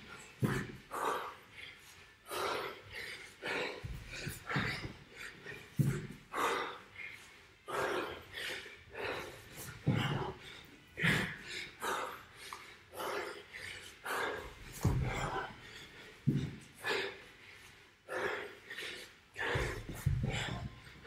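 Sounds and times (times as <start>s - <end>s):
man panting hard: 0.0s - 21.0s.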